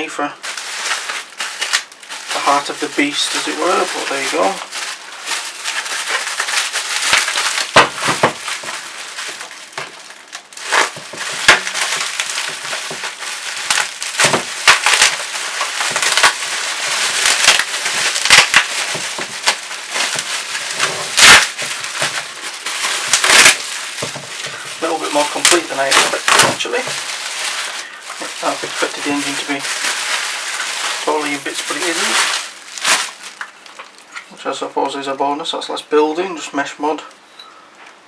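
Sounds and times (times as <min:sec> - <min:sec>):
packaging rustling and crackling: 0:00.4 - 0:34.4.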